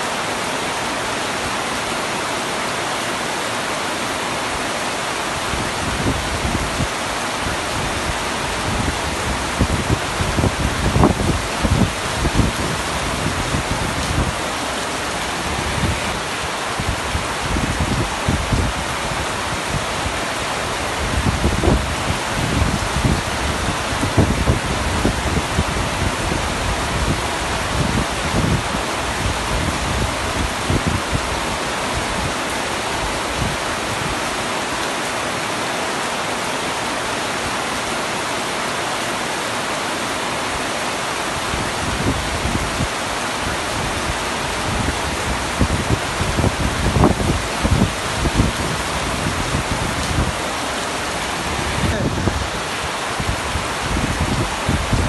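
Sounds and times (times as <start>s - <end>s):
heavy rain on a tent roof: 0.0s - 55.0s.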